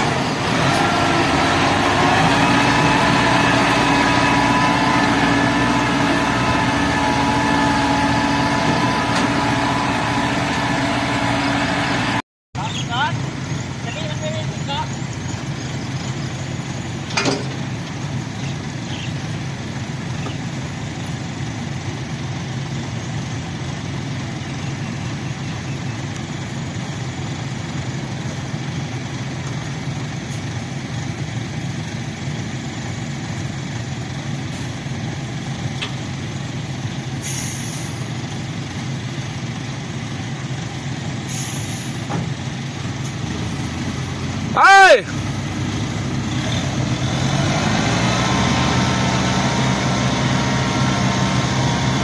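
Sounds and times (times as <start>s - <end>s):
truck engine droning: 0.0s - 52.0s.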